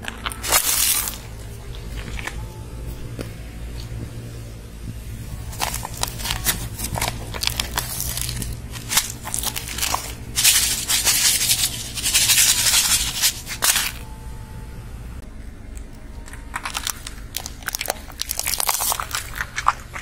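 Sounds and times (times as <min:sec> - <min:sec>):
plastic cup crackling and crinkling: 0:00.0 - 0:04.2, 0:05.3 - 0:14.0, 0:15.8 - 0:20.0.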